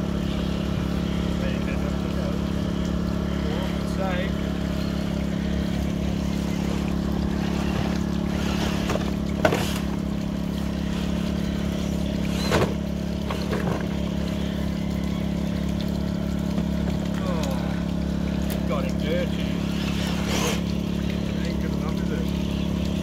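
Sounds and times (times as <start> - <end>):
generator engine droning: 0.0 - 23.0.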